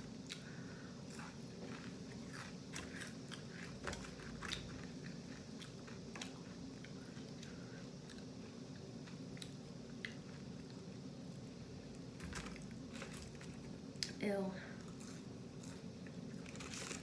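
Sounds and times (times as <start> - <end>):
person chewing crispy food: 0.0 - 14.2, 14.8 - 17.0.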